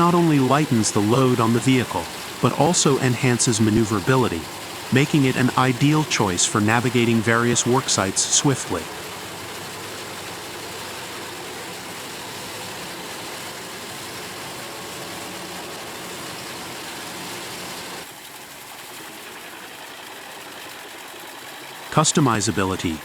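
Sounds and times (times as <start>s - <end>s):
wood chipper running: 0.0s - 21.9s.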